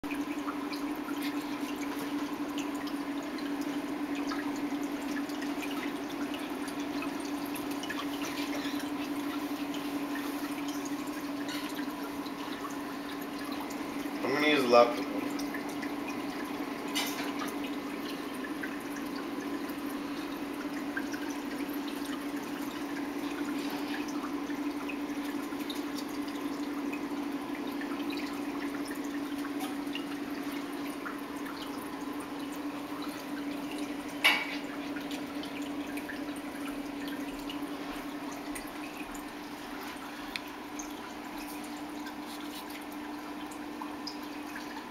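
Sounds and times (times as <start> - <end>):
water trickling and dripping: 0.0 - 44.9.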